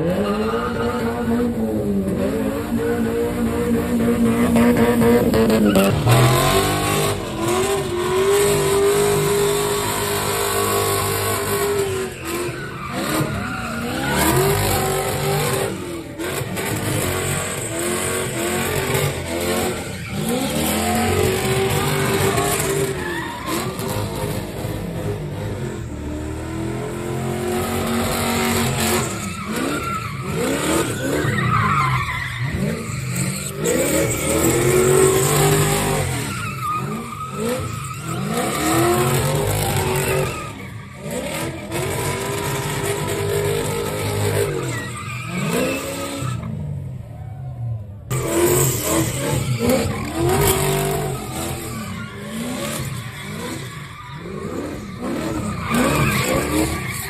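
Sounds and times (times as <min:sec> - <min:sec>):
car engine revving hard: 0:00.0 - 0:31.6, 0:32.5 - 0:46.5
tires screeching on pavement: 0:00.0 - 0:57.0.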